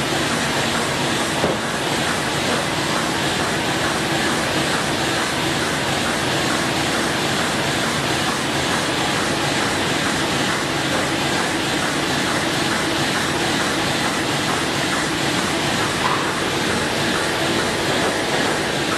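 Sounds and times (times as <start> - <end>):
printing press running: 0.0 - 18.9.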